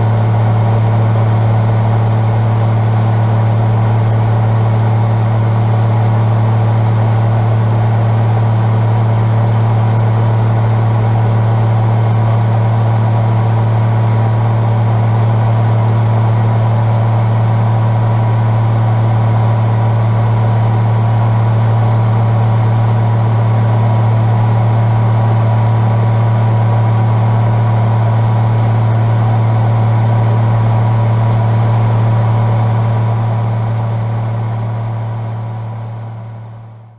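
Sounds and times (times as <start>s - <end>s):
helicopter engine and rotor drone: 0.0s - 36.9s.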